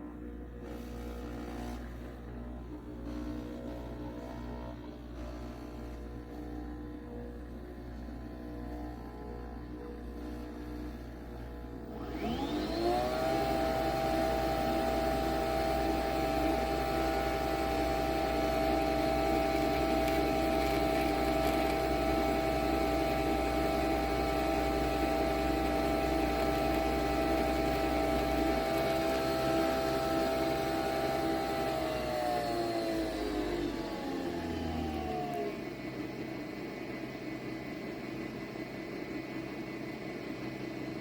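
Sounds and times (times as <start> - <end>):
coffee machine motor whirring: 0.0 - 41.0.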